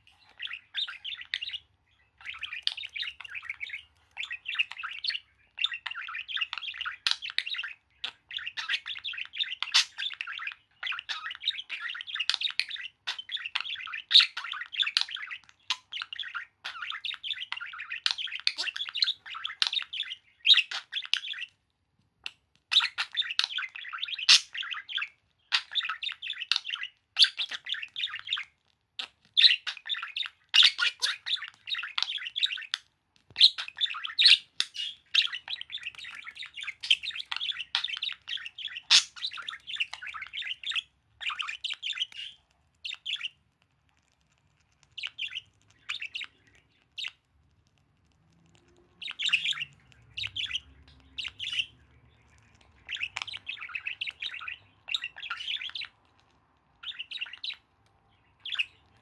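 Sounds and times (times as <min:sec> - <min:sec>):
budgerigar warbling and chattering: 0:00.1 - 0:21.5, 0:22.7 - 0:43.4, 0:44.3 - 0:47.3, 0:48.5 - 0:56.1, 0:56.8 - 0:57.7, 0:58.4 - 0:59.0.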